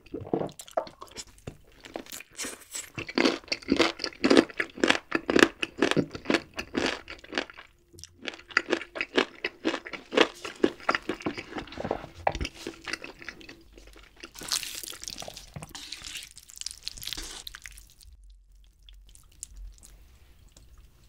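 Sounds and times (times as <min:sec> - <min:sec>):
crunchy chewing: 0:00.6 - 0:21.0.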